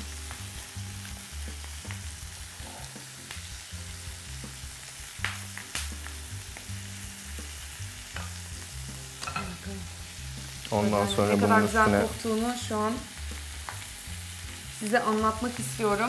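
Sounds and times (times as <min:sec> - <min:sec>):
frying sizzle: 0:00.0 - 0:16.0.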